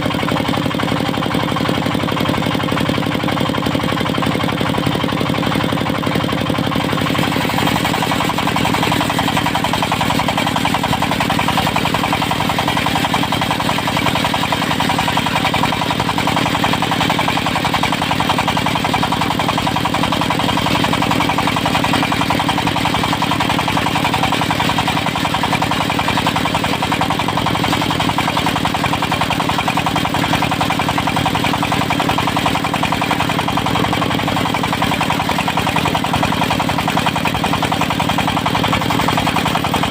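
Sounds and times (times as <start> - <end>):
sawmill engine knocking: 0.0 - 39.9.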